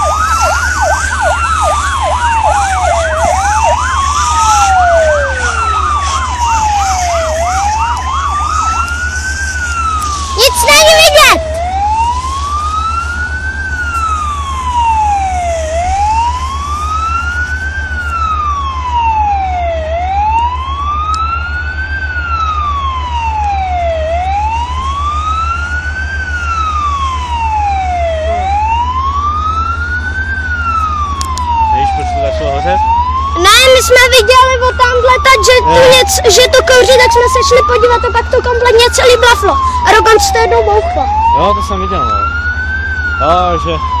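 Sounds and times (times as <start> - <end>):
low drone: 0.0 - 43.9
siren wailing: 0.0 - 44.0.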